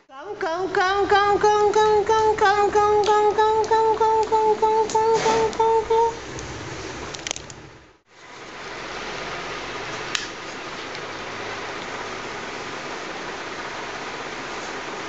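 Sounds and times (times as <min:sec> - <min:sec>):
room noise hiss: 0:00.0 - 0:15.0.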